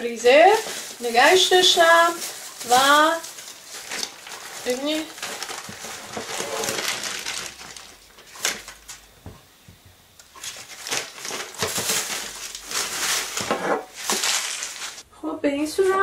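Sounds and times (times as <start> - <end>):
baking paper crinkling: 0.0 - 9.1, 10.3 - 15.0.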